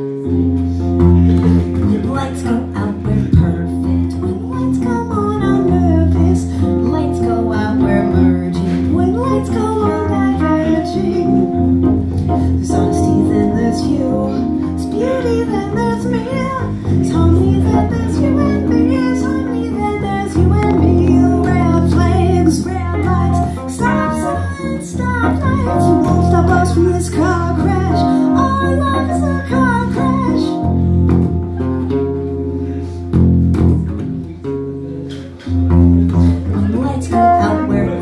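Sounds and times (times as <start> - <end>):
electric bass guitar: 0.0 - 38.0
electric keyboard melody: 0.0 - 38.0.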